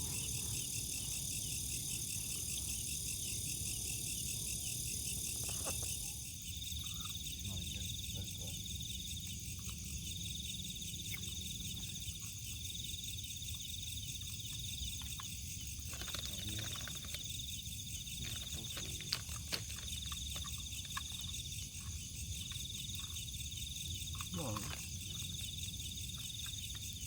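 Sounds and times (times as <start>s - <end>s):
high insect chorus: 0.0s - 27.0s
insect pulsed trill: 0.0s - 27.0s.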